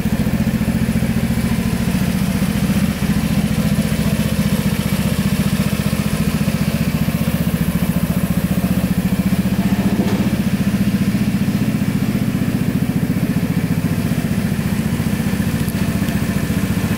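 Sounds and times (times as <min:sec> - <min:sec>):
scooter engine idling: 0:00.0 - 0:16.9.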